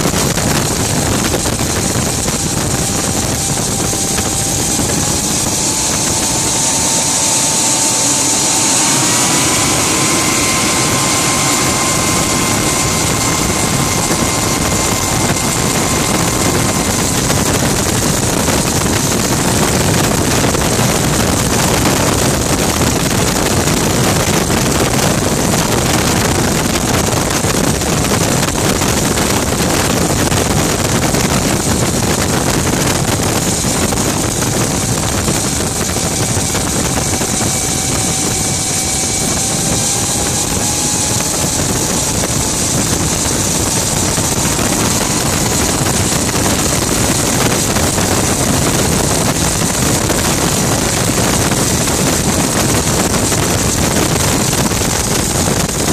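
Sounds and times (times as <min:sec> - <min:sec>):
gas turbine car running: 0:00.0 - 0:55.9
high-pitched turbine hiss: 0:00.0 - 0:55.9
wind noise: 0:00.0 - 0:55.9
faint rising tone: 0:00.2 - 0:27.4, 0:33.0 - 0:54.8.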